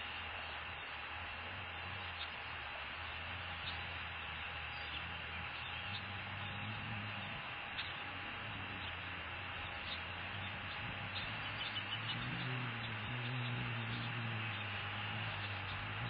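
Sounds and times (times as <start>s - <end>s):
microphone hiss and hum: 0.0s - 16.0s.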